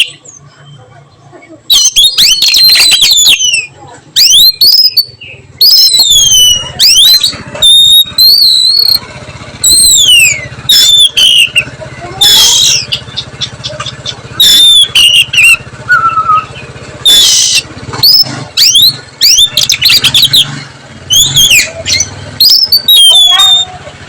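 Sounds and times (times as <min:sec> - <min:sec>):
songbird whistling and chattering: 0:00.0 - 0:09.0, 0:09.6 - 0:23.8.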